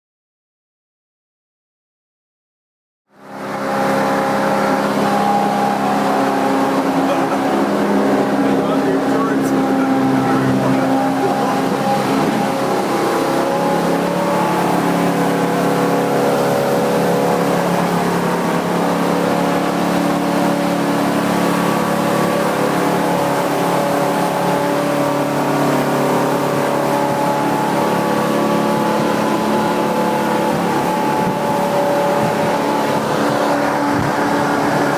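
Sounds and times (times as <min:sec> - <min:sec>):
outboard motor running: 0:03.1 - 0:34.9.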